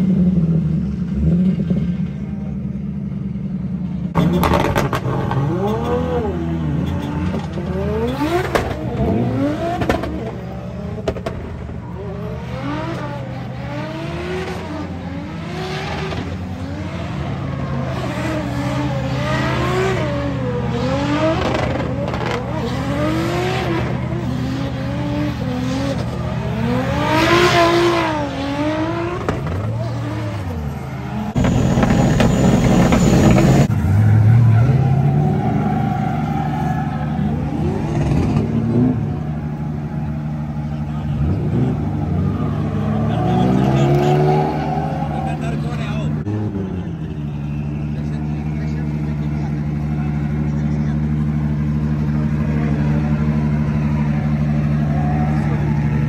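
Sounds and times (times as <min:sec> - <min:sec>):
drift car engine revving: 0:04.1 - 0:56.0.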